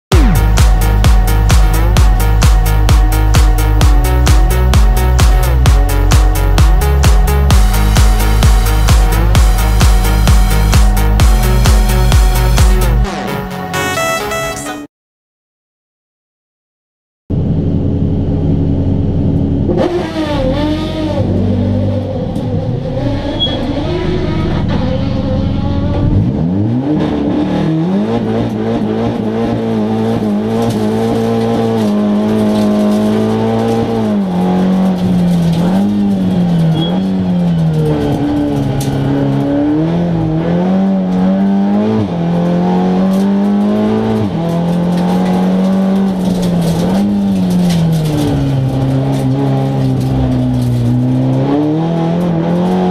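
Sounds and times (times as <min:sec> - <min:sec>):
race car engine revving: 0:00.1 - 0:13.6, 0:17.3 - 0:52.9.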